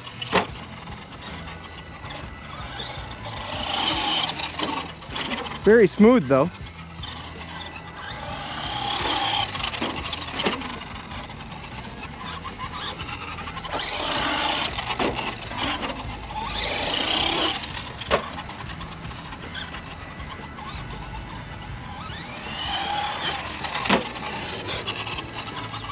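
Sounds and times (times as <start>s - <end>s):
electric motor whining: 0.0s - 25.9s
tyre noise: 0.0s - 25.9s.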